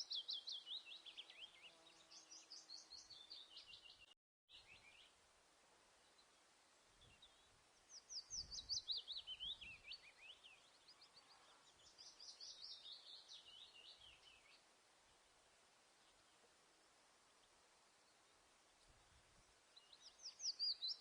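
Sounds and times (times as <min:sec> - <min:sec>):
faint steady hiss: 0:00.0 - 0:21.0
songbird chirping: 0:00.0 - 0:21.0.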